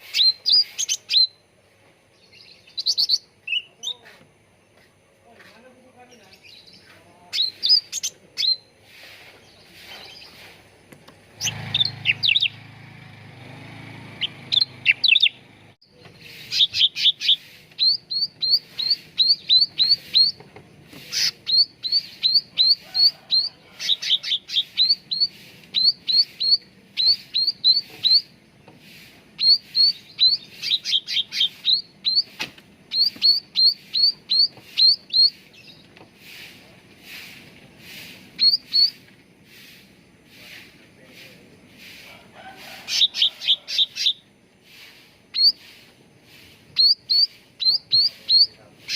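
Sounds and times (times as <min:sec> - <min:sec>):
songbird chirping rapidly: 0:00.0 - 0:04.9, 0:05.5 - 0:48.9.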